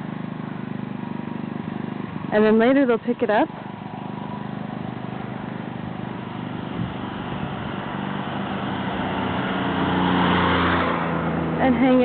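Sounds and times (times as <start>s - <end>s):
engine running with rapid beat: 0.0s - 12.0s.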